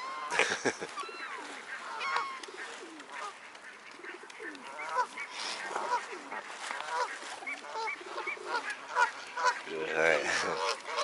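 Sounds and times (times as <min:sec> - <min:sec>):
waterfowl honking: 0:00.0 - 0:11.0.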